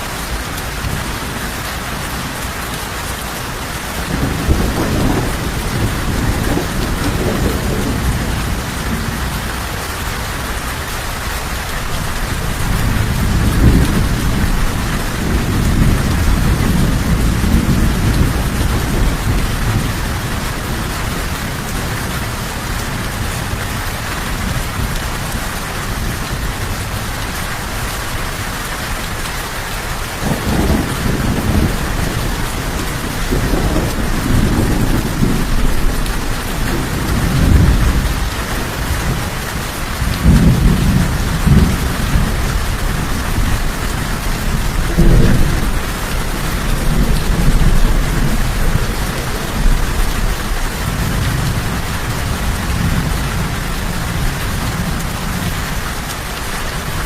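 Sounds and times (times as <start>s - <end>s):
heavy rain: 0.0s - 57.0s
low rolling thunder: 3.6s - 29.2s, 29.8s - 57.0s.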